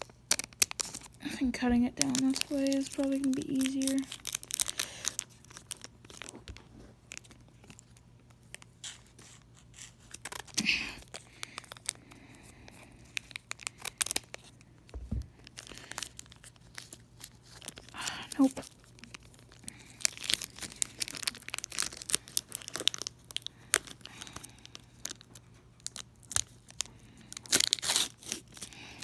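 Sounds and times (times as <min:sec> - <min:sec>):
foil wrapper crinkling and tearing: 0:00.0 - 0:12.1, 0:12.9 - 0:14.6, 0:15.4 - 0:29.0.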